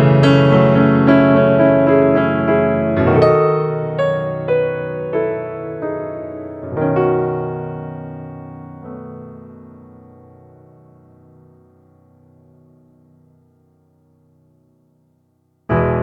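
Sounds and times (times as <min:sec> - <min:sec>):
slow calm piano music: 0:00.0 - 0:16.0.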